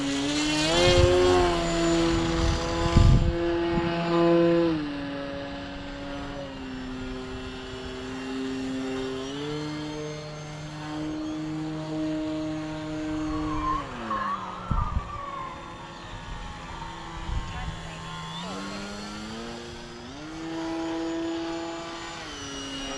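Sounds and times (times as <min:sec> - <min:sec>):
model plane motor buzzing: 0:00.0 - 0:22.9.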